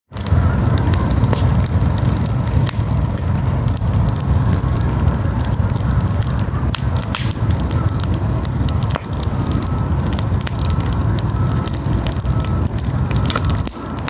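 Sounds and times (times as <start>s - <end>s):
campfire crackling and popping: 0.1s - 14.0s.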